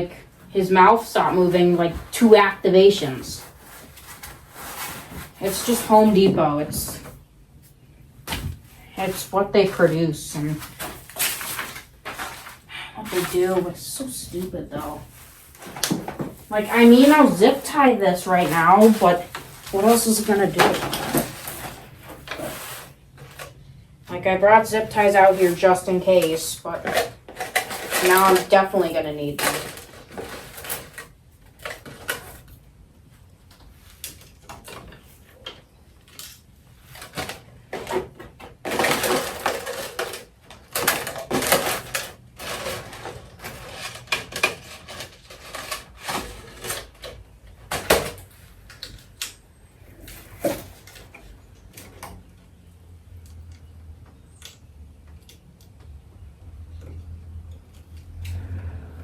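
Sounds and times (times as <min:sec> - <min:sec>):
hard plastic parts clattering: 0:00.0 - 0:07.2, 0:08.3 - 0:32.6, 0:33.5 - 0:49.4.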